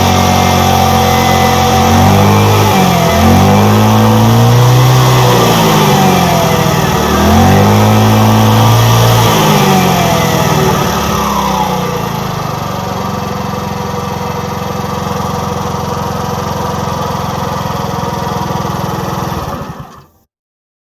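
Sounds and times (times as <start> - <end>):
scooter engine revving and idling: 0.0 - 20.2.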